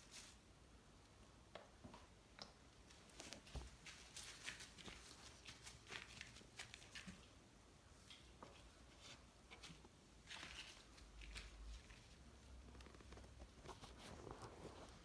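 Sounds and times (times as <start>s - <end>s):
soft rustles: 0.0s - 0.4s, 2.9s - 15.0s.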